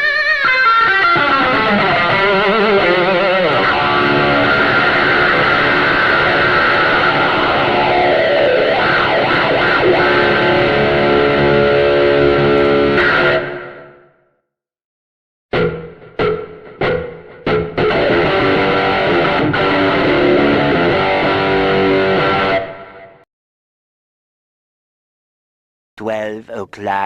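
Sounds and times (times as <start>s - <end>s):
distorted electric guitar rock music: 0.0s - 14.0s, 15.5s - 23.2s.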